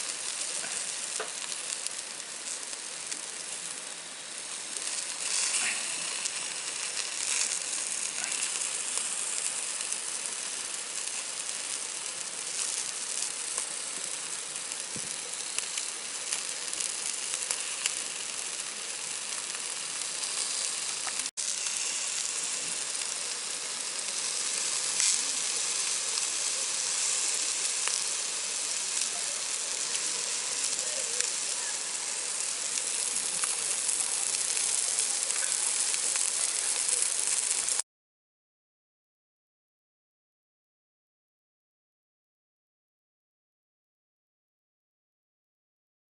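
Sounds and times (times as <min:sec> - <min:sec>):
food sizzling in a pan: 0:00.0 - 0:37.8.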